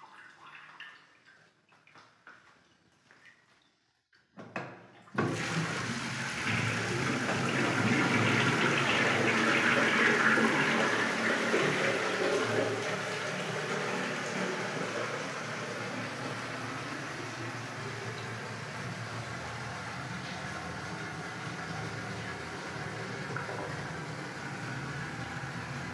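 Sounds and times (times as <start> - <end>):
water rushing into toilet pan: 5.0 - 25.9.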